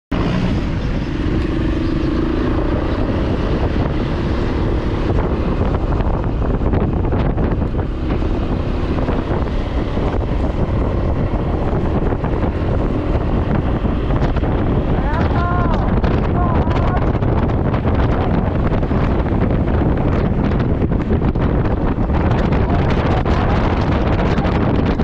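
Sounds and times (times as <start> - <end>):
tyres rumbling on road: 0.1 - 25.0
wind buffeting microphone: 0.1 - 25.0.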